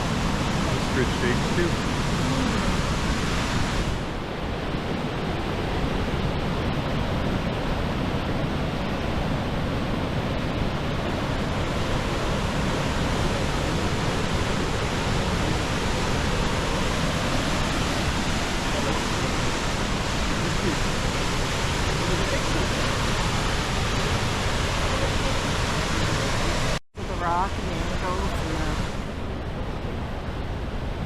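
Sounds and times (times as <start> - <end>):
waterfall rushing: 0.0 - 7.9, 8.5 - 29.3.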